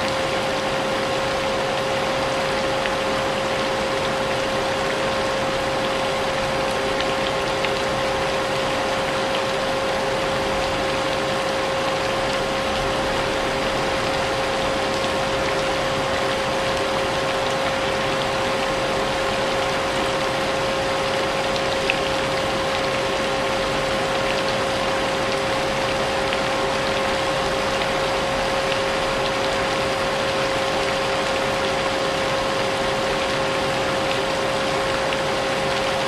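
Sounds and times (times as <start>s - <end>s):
rain hiss: 0.0s - 36.0s.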